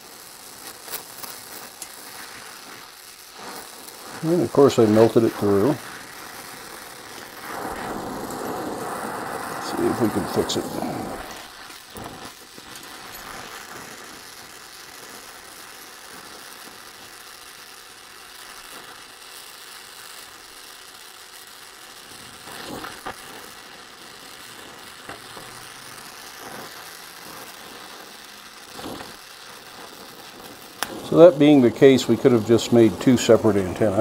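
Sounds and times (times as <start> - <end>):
welding torch flame hissing: 0.0 - 34.0.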